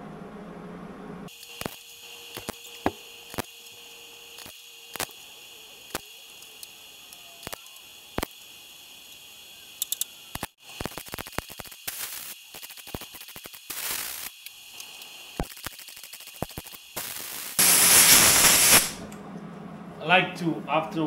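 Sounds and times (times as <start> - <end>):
rapid welding crackle: 1.3 - 19.0
steady hiss: 1.3 - 19.0
welder crackling snaps: 1.3 - 19.1.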